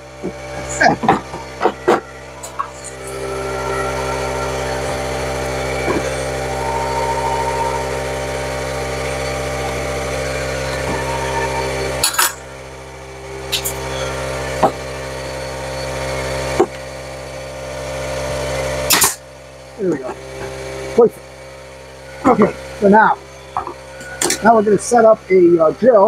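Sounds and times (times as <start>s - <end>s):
air compressor running: 0.0s - 26.0s.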